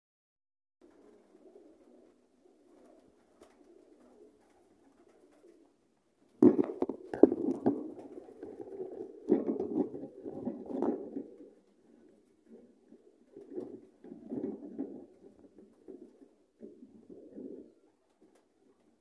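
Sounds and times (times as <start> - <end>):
pigeon cooing: 0.8 - 5.8, 6.4 - 19.0.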